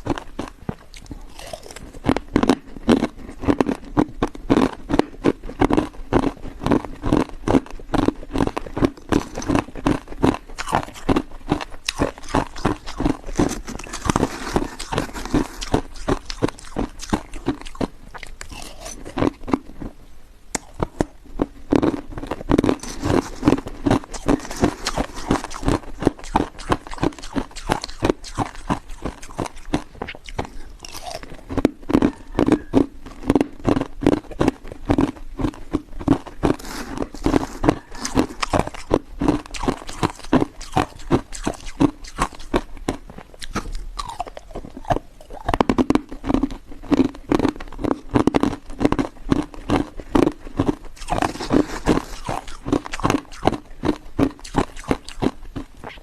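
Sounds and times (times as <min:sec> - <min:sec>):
person crunching ice: 0:00.0 - 0:19.9, 0:20.6 - 0:56.0.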